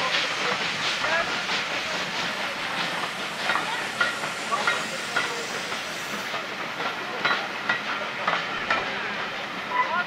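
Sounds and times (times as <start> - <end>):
train coaches rolling past: 0.0 - 10.0.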